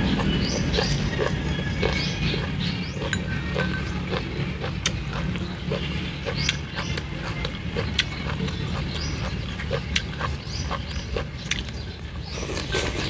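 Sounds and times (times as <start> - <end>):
wet chewing and mouth smacks: 0.0 - 13.0.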